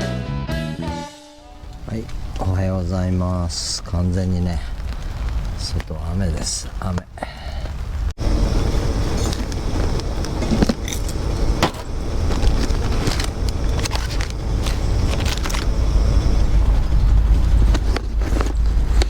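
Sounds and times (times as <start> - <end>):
low rumble of rain: 1.6 - 19.0.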